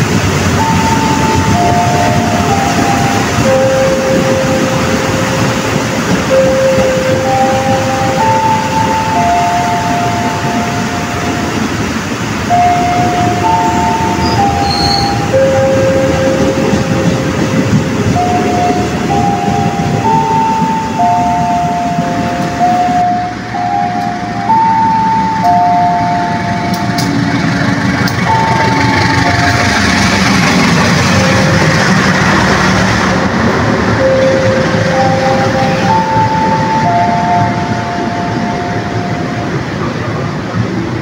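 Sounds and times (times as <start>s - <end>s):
electric train rumbling: 0.0s - 41.0s
slow tune of held notes: 0.6s - 11.7s, 12.5s - 39.8s.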